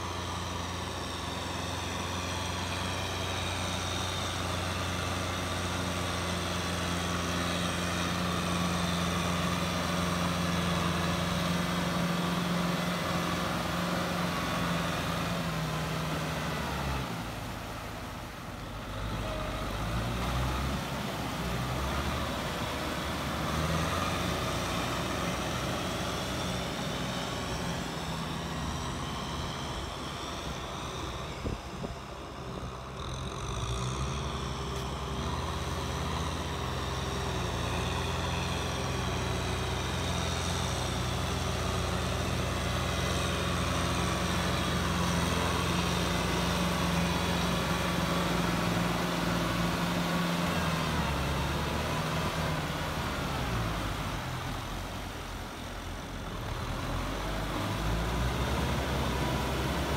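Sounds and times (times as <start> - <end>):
tractor diesel engine pushing mud: 0.0 - 59.9
tractor diesel engine under load: 0.0 - 59.9.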